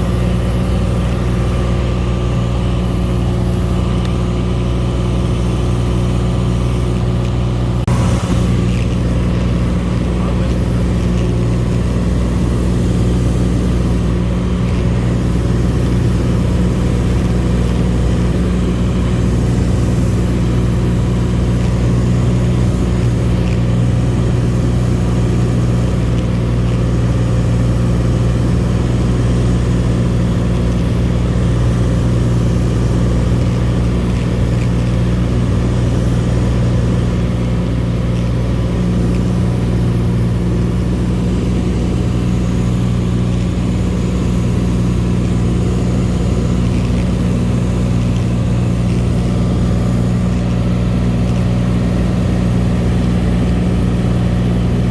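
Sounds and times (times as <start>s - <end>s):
propeller plane engine droning: 0.0s - 54.9s.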